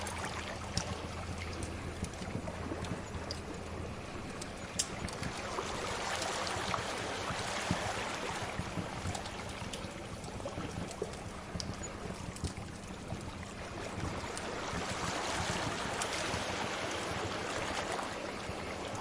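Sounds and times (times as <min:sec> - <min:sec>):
fire crackling and popping: 0:00.0 - 0:16.4
sea waves washing in: 0:00.0 - 0:19.0.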